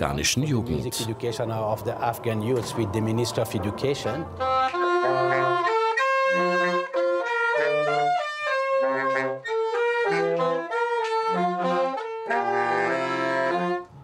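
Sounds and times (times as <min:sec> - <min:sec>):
saxophones playing in harmony: 0:00.6 - 0:14.0.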